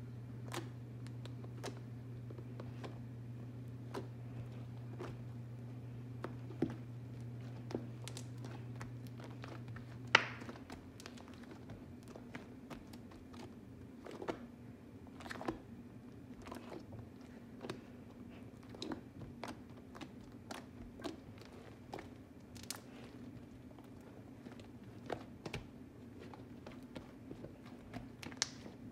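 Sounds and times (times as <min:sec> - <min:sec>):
slime squished by hand: 0:03.7 - 0:14.5, 0:15.1 - 0:28.9.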